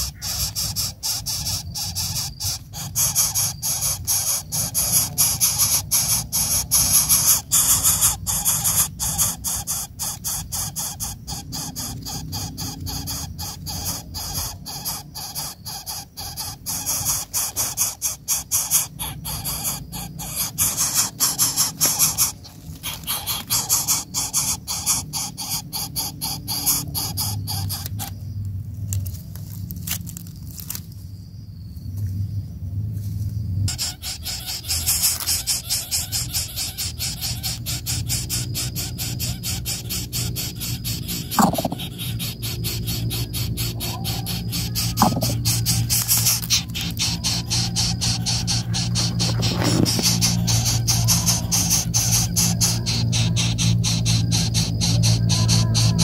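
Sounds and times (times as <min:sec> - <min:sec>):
nestling high-pitched squealing hisses: 0:00.0 - 0:28.2, 0:33.7 - 0:56.0.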